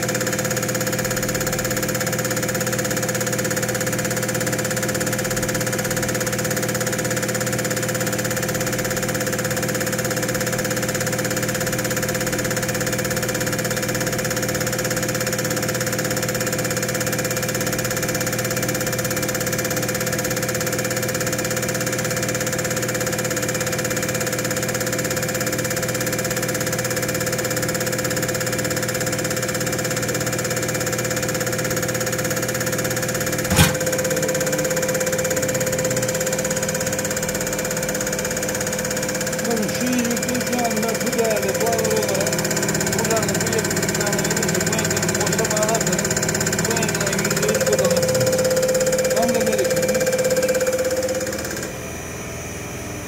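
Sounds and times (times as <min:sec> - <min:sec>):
test bench motor humming: 0:00.0 - 0:53.0.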